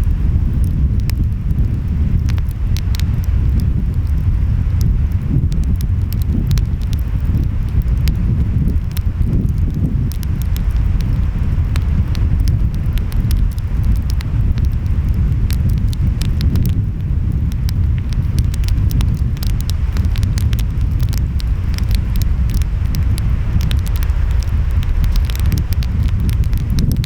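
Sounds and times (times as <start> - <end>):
wind: 0.0 - 27.0
wood fire crackling and popping: 0.0 - 27.0.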